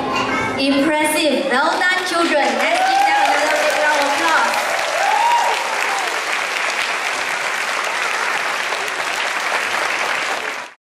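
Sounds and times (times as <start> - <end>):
audience and children applauding: 1.6 - 10.8.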